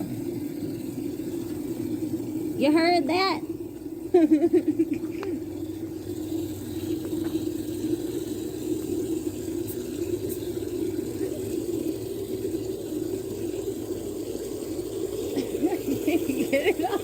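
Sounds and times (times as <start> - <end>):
hose water running into container: 0.0 - 17.0.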